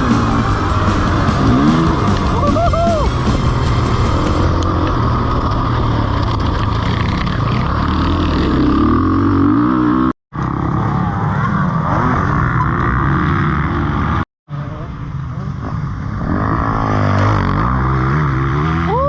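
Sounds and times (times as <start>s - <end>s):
motorcycle engine revving: 0.0s - 14.2s, 15.4s - 19.0s.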